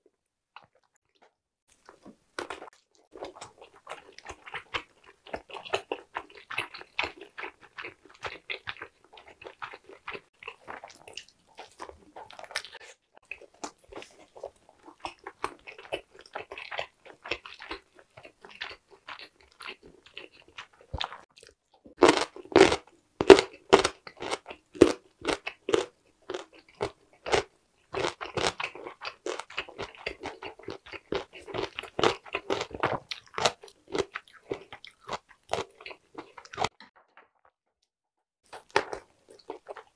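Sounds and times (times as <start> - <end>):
soft wet chewing: 0.6 - 36.8, 38.5 - 39.9.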